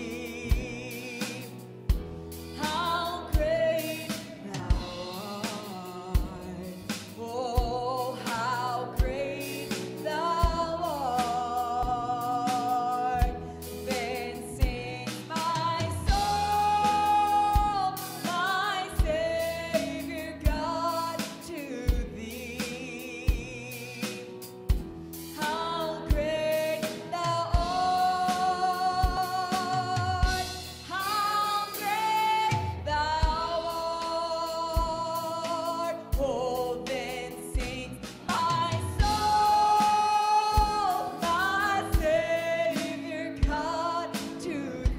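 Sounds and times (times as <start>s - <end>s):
woman singing: 0.0s - 24.6s, 25.3s - 44.9s
band playing: 0.0s - 44.9s.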